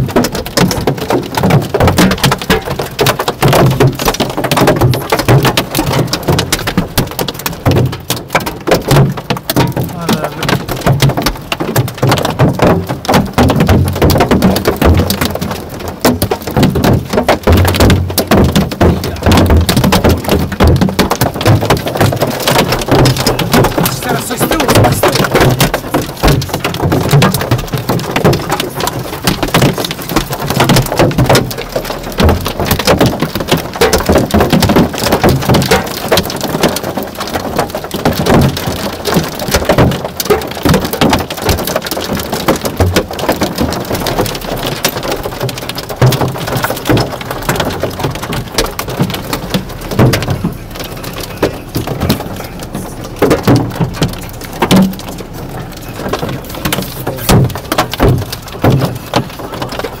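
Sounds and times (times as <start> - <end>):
hail and heavy rain on car roof: 0.0 - 60.0.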